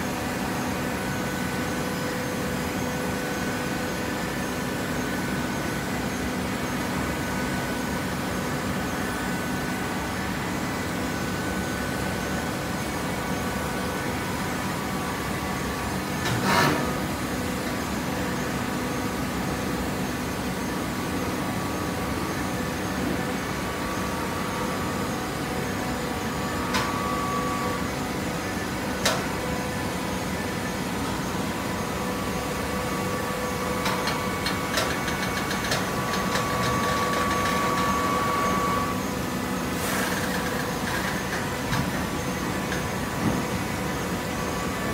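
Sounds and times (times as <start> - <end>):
machine whine: 0.0 - 44.9.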